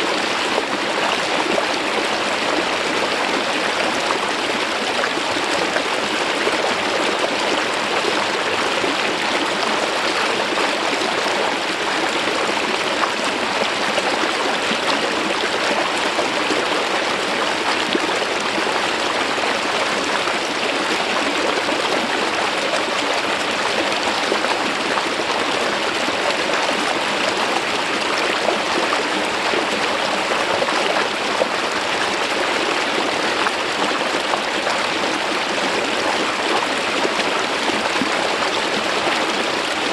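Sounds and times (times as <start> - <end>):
stream water flowing over rock: 0.0 - 39.9.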